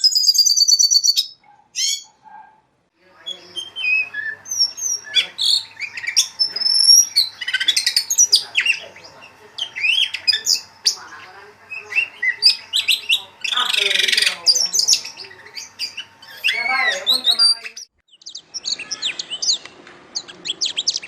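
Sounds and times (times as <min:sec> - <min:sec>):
birdsong chirps and whistles: 0:00.0 - 0:21.0.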